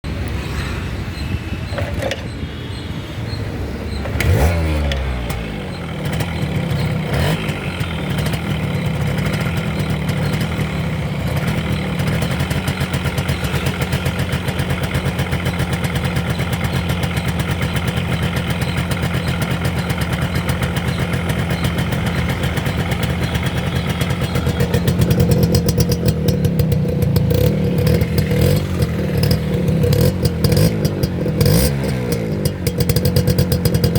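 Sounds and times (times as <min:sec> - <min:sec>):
motorcycle engine and exhaust: 0:00.0 - 0:33.9.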